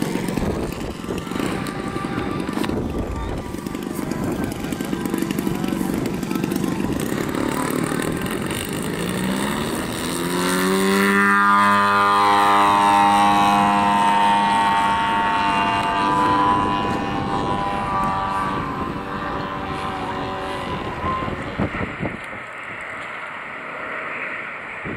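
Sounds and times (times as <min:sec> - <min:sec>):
model airplane engine droning: 0:00.0 - 0:24.9.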